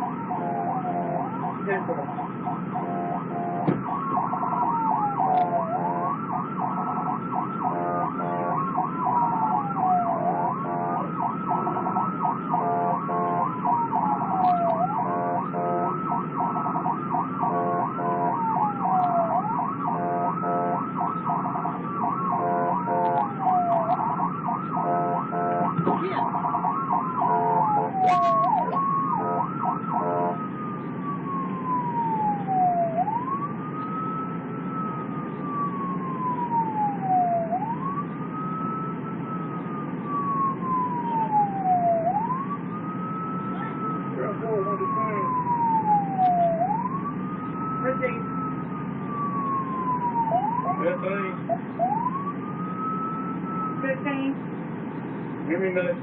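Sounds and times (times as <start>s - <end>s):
fast cycling siren: 0.0s - 54.4s
police siren slow wail: 0.0s - 55.9s
vehicle hum: 0.0s - 56.0s.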